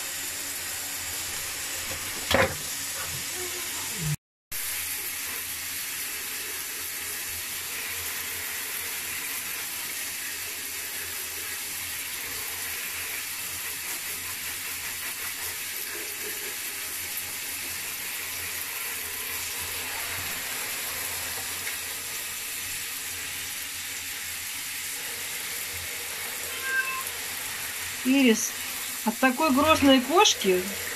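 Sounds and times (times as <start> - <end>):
shower spraying water: 0.0 - 30.9.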